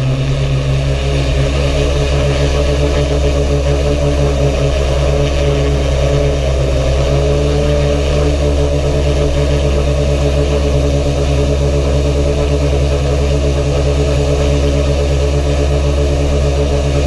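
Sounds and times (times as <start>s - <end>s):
drone motors and propellers: 0.0s - 17.0s.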